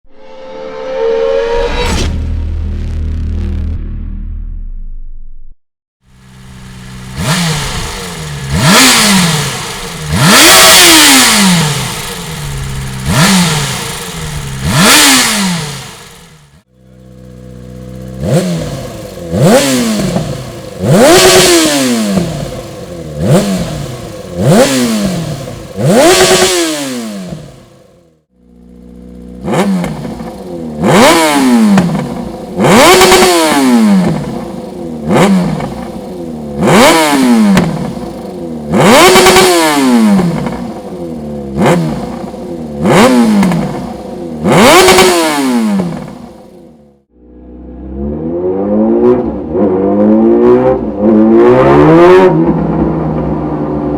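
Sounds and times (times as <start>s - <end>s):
motorcycle engine revving: 6.0s - 53.9s.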